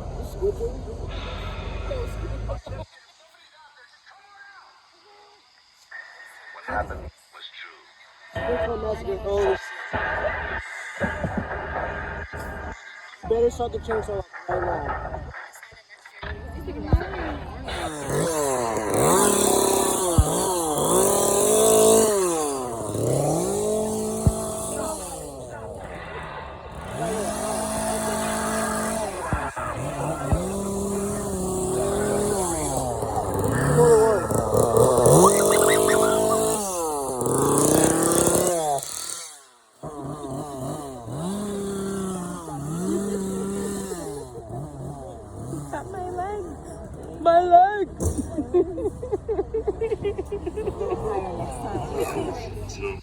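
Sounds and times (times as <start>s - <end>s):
chainsaw engine revving: 0.0s - 2.8s, 10.3s - 15.4s, 16.2s - 53.0s.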